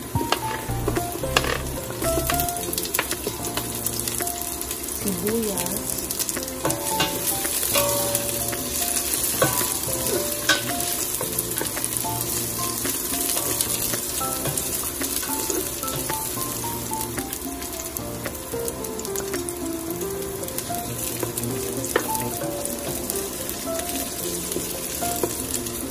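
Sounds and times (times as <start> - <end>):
onion and garlic sizzling in oil: 0.0 - 25.9.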